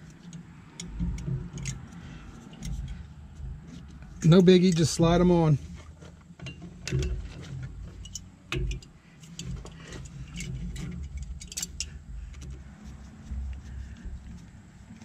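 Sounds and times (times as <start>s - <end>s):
faint low rumble: 0.0s - 15.0s.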